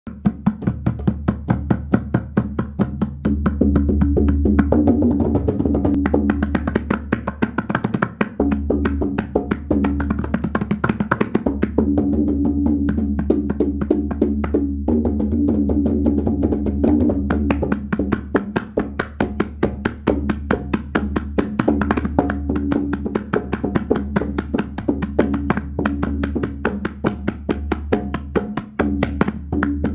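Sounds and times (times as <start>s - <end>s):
tabla drumming: 0.1s - 29.9s.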